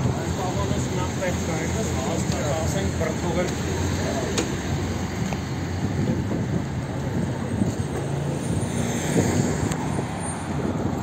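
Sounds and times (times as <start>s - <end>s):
tyres on the road: 0.0s - 11.0s
vehicle engines humming: 0.0s - 11.0s.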